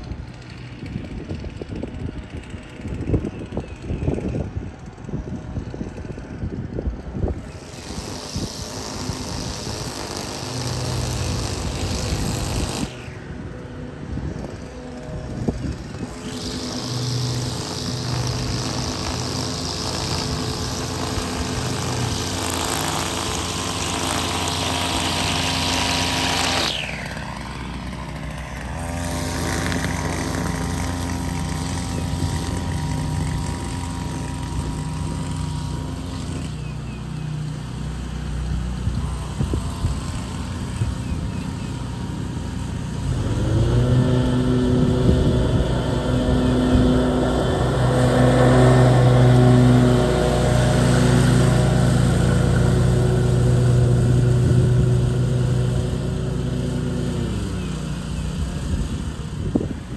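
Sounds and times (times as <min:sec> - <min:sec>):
string trimmer revving: 0:00.0 - 0:59.9.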